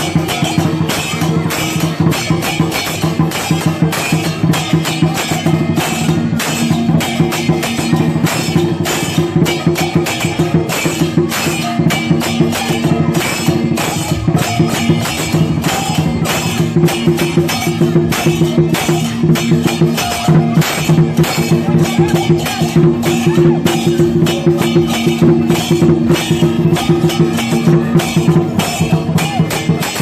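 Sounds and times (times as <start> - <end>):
drum and cymbal ensemble: 0.0 - 30.0.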